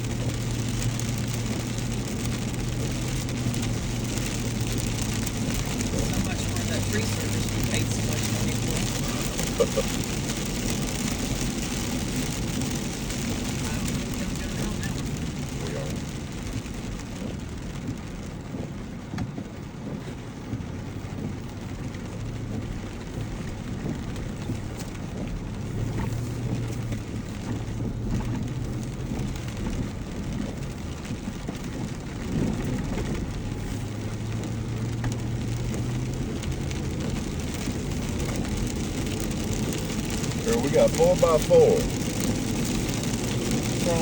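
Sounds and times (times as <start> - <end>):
low engine hum: 0.0 - 44.0
road and tyre noise: 0.0 - 44.0.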